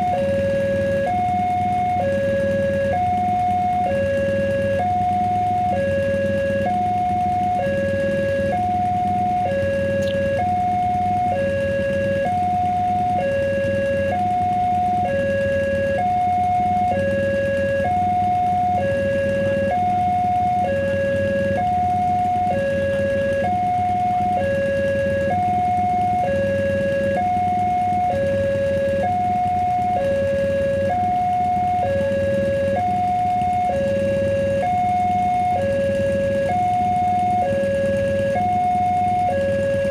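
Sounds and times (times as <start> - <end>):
level crossing two-tone alarm: 0.0 - 39.9
low hum: 0.0 - 39.9.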